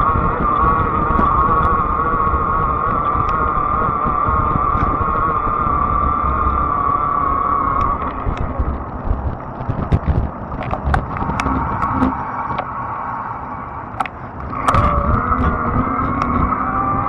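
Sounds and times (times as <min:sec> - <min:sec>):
bike clicks and rattles: 0:00.0 - 0:06.7, 0:07.6 - 0:12.7, 0:13.9 - 0:17.0
electric motor whining: 0:00.0 - 0:17.0
low rumble of wind and tyres: 0:00.0 - 0:17.0.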